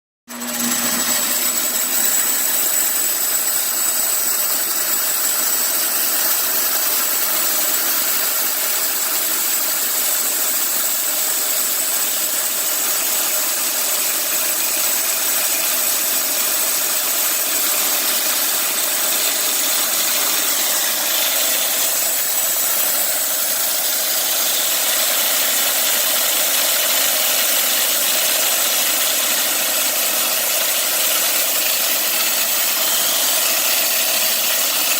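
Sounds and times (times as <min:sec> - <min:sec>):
bandsaw mill running: 0:00.3 - 0:34.9.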